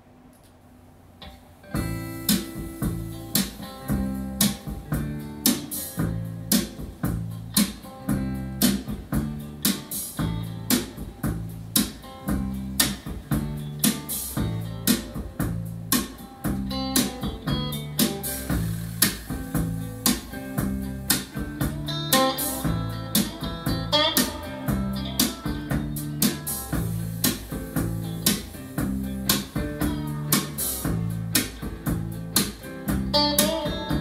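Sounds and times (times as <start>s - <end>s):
music with guitar and deep bass: 1.2s - 34.0s.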